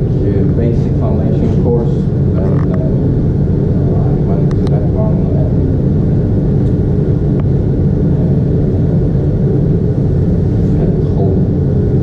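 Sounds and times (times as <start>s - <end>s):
forge machinery rumbling: 0.0s - 12.0s.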